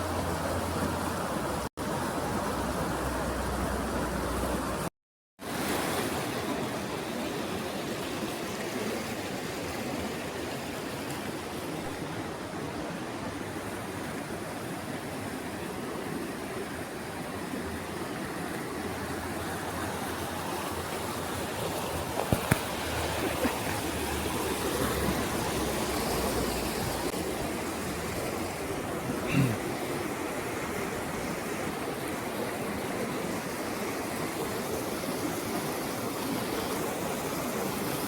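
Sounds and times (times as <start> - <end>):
water flowing over rocks: 0.0 - 38.0.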